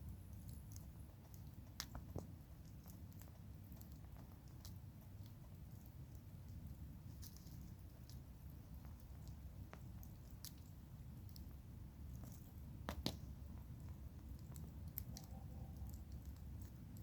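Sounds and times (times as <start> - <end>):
campfire wood crackling: 0.0 - 17.0.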